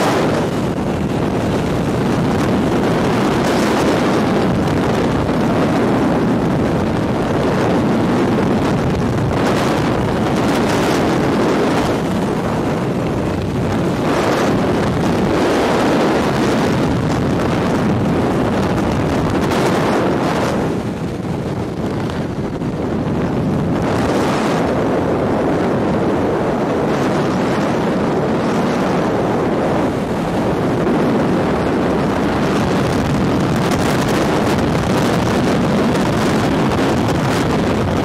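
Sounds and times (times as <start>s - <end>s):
wind roaring over microphone: 0.0s - 38.0s.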